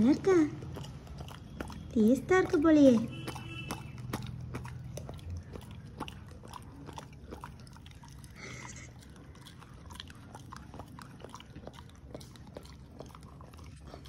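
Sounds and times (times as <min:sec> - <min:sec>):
dog chewing sugarcane: 0:00.0 - 0:14.0.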